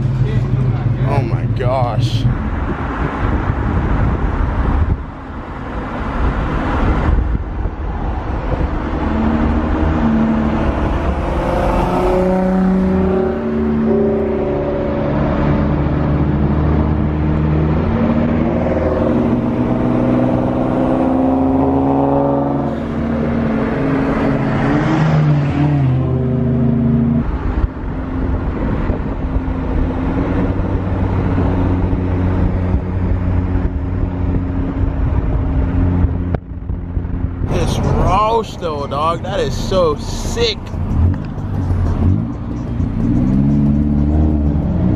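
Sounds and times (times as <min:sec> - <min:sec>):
car engine accelerating: 0:00.0 - 0:44.9
road and wind noise: 0:00.0 - 0:44.9.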